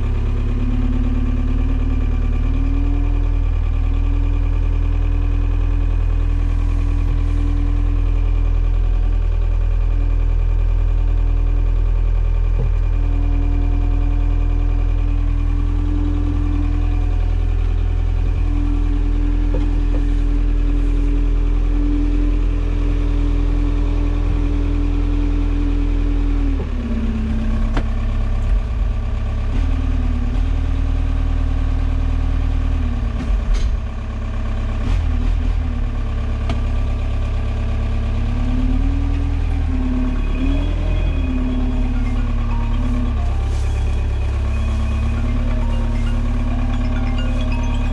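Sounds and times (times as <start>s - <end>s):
forklift hum and whine: 0.0s - 47.9s.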